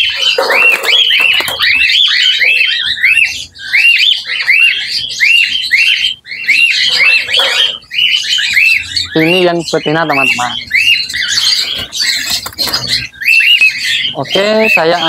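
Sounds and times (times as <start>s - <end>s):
cockatiel screeching: 0.0s - 15.0s
harsh raspy squawks: 0.0s - 15.0s.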